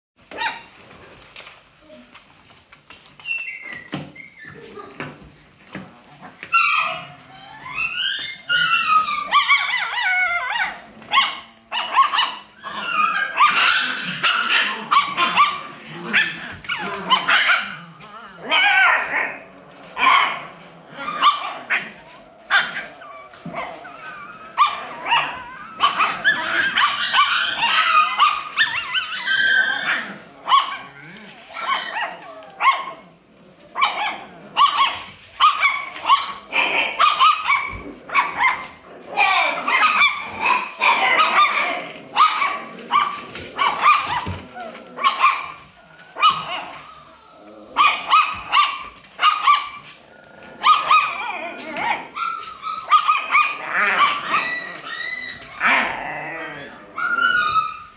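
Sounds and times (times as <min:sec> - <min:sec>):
puppies yipping and barking: 0:02.9 - 0:05.2, 0:06.3 - 0:57.9.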